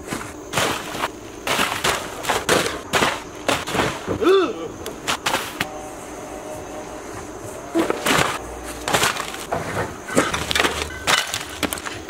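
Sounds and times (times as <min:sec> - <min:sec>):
trash bags landing on wood: 0:00.0 - 0:05.7, 0:07.7 - 0:12.0.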